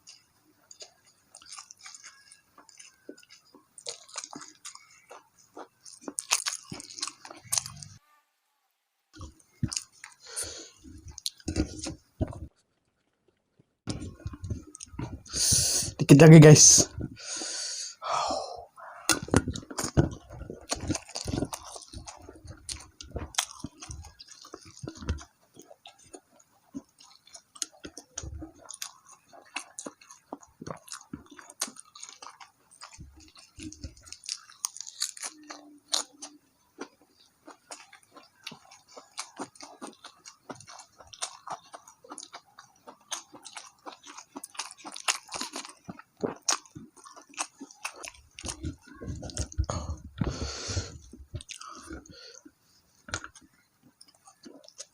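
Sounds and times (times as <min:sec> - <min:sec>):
person chewing crunchy food: 0:00.0 - 0:08.0, 0:09.2 - 0:12.7, 0:13.9 - 0:17.6, 0:18.2 - 0:54.9.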